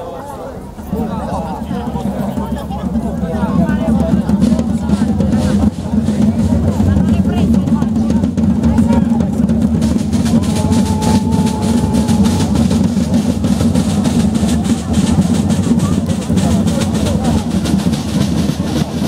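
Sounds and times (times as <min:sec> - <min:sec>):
side drums playing rapidly: 0:01.0 - 0:19.0.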